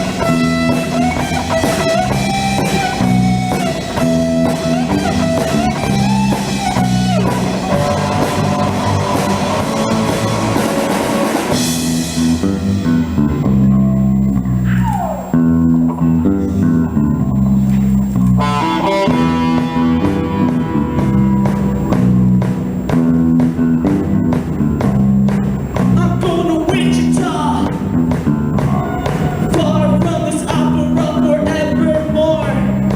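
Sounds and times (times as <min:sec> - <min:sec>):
lead guitar: 0:00.0 - 0:32.9
rock band playing: 0:00.0 - 0:32.9.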